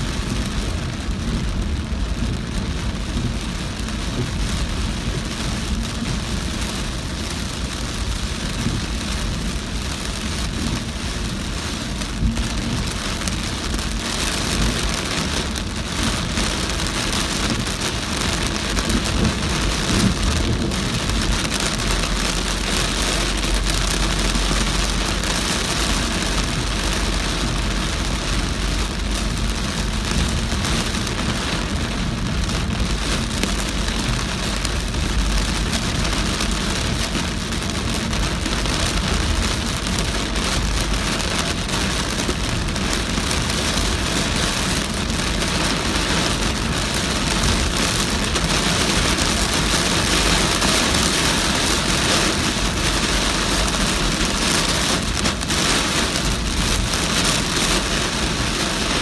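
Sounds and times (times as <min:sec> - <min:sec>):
heavy rain pelting a car: 0:00.0 - 0:59.0
low road and engine rumble: 0:00.0 - 0:59.0.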